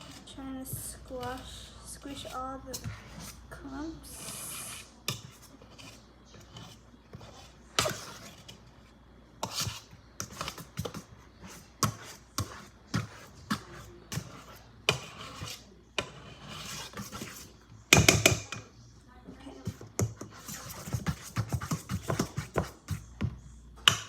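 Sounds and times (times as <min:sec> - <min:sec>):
fork scraping a mixing bowl: 0:00.0 - 0:18.6, 0:19.6 - 0:23.1.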